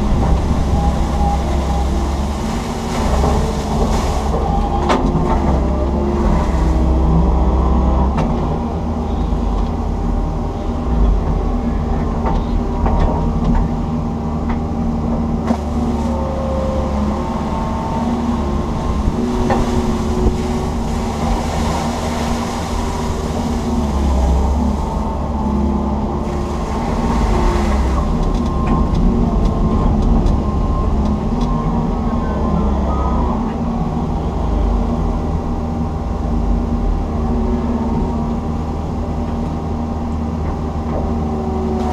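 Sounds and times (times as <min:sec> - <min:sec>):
excavator engine and hydraulics: 0:00.0 - 0:41.9.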